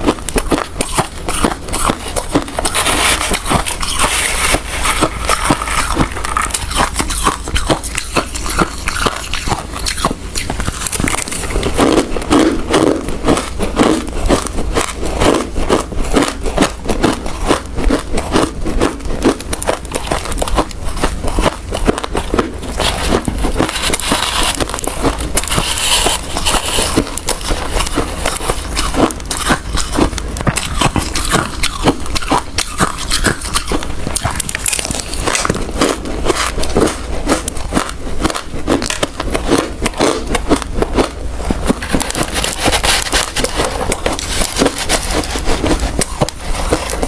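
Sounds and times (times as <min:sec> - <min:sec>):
person chewing hard ice: 0:00.0 - 0:47.0.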